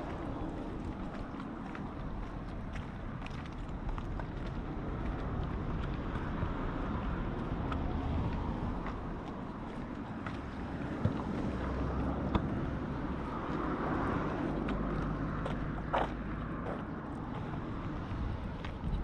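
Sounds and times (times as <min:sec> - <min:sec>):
wind on microphone: 0:00.0 - 0:15.9, 0:17.2 - 0:19.0.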